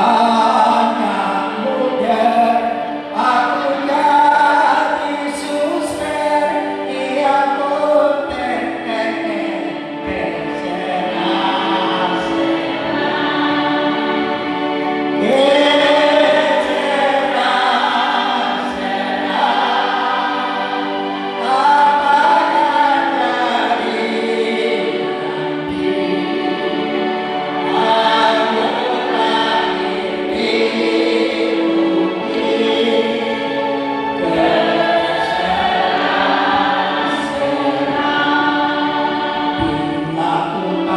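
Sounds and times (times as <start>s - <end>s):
choir singing slow song: 0.0s - 40.9s.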